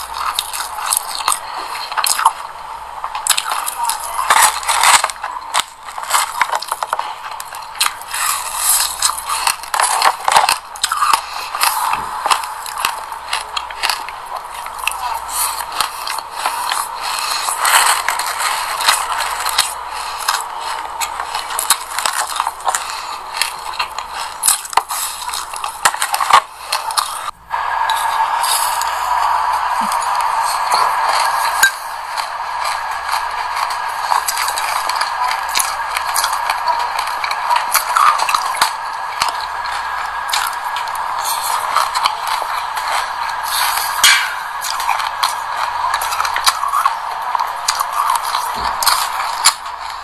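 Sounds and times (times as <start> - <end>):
chewing crunchy seeds: 0.0 - 27.3, 27.9 - 50.0.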